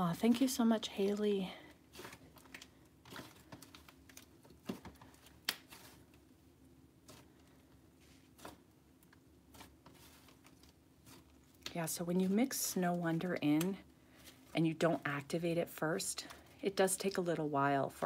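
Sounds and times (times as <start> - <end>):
slime crackles and squishes: 0.0 - 6.3, 7.0 - 15.4.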